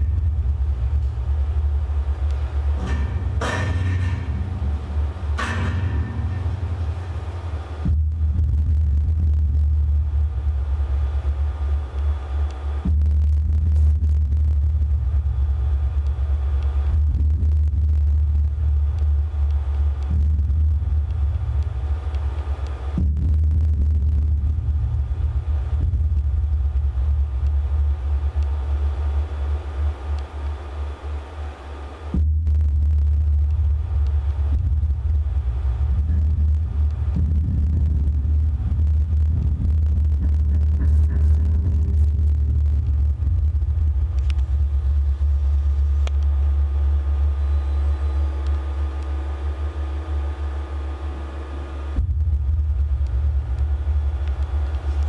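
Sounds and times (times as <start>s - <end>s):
low rumbling hum: 0.0s - 55.0s.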